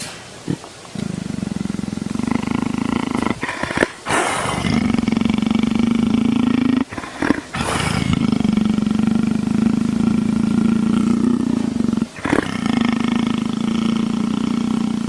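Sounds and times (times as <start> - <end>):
leopard loud breaths: 0.5 - 15.0
leopard purr-like rumbling: 0.5 - 15.0.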